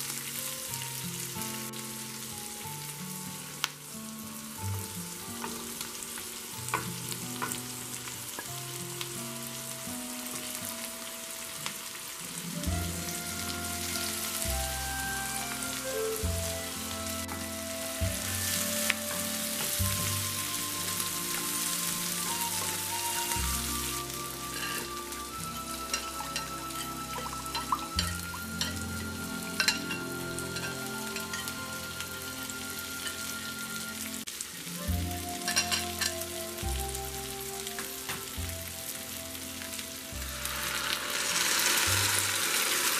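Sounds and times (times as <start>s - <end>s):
background music: 0.0s - 42.9s
food sizzling in a frying pan: 0.0s - 42.9s.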